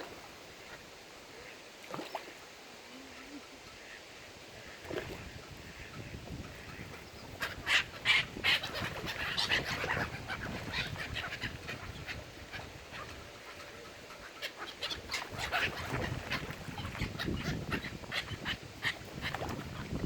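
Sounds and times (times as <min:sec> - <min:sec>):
waterbirds calling harshly: 0:00.0 - 0:20.0.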